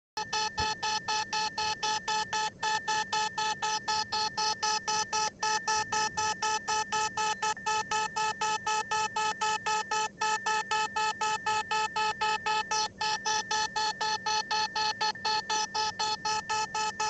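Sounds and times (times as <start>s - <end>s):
buzzy electronic alarm beeps: 0.2s - 17.0s.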